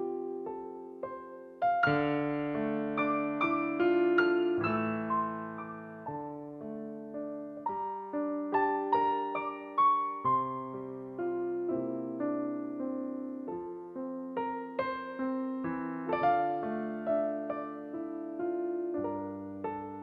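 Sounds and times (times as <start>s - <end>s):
gentle solo piano music: 0.0s - 20.0s.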